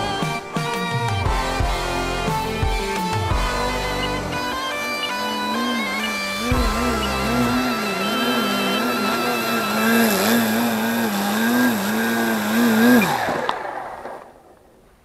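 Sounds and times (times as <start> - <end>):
electric motor and propeller whirring: 1.2 - 14.4.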